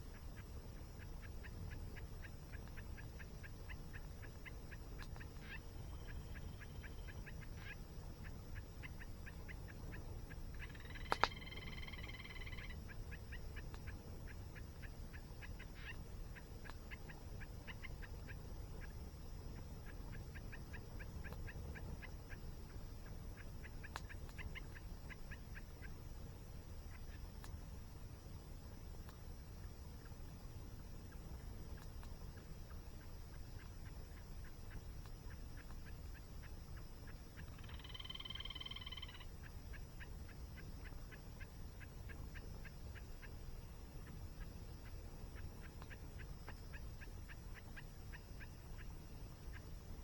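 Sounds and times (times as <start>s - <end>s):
campfire crackle: 0.0s - 12.1s, 12.7s - 37.6s, 39.2s - 50.0s
birds calling: 0.1s - 26.0s, 32.6s - 50.0s.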